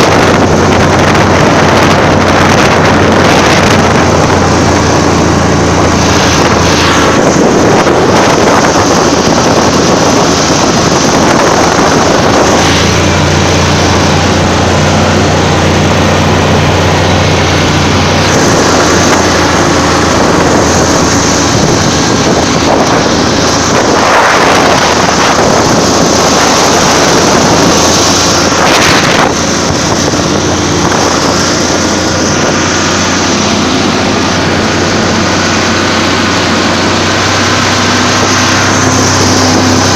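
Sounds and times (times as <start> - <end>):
snowmobile engine running hard: 0.0 - 39.9
wind buffeting microphone: 0.0 - 39.9.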